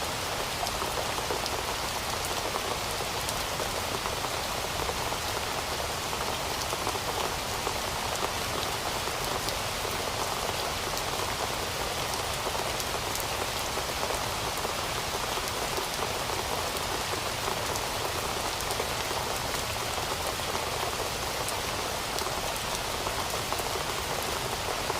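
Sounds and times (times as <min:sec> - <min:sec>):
rain falling on a surface: 0:00.0 - 0:24.9.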